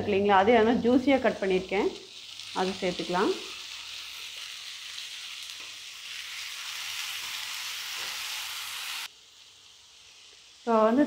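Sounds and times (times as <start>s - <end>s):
vegetables sizzling in hot oil: 0.1s - 11.0s.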